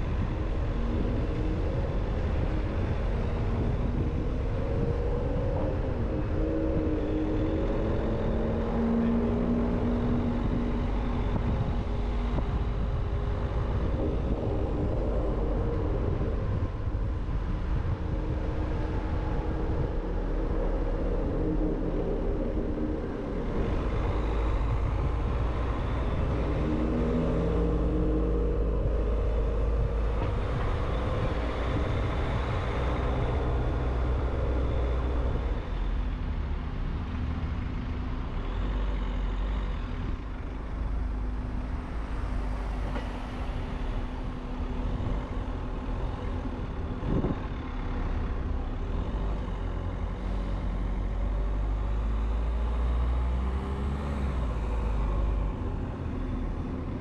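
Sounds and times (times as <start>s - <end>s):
car engine with road rumble: 0.0s - 57.0s
surrounding traffic: 0.0s - 57.0s.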